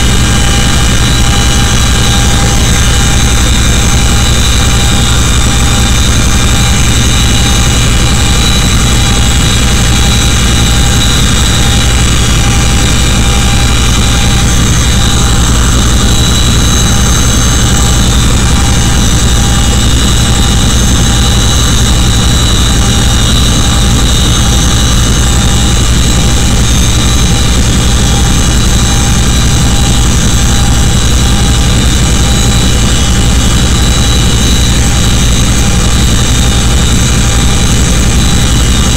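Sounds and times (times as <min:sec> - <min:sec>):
helicopter rotor and engine drone: 0:00.0 - 0:38.9
high-pitched whining tones: 0:00.0 - 0:38.9.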